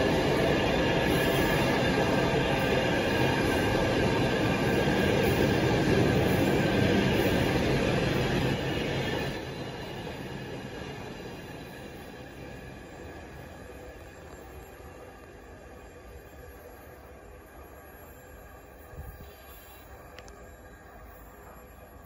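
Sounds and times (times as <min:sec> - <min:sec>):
freight train wagons rolling past: 0:00.0 - 0:22.0.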